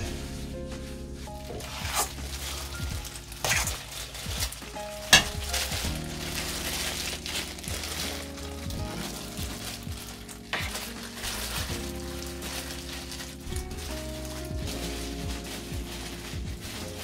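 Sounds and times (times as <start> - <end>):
background music with held notes: 0.0 - 17.0
plastic gloves crinkling: 0.0 - 17.0.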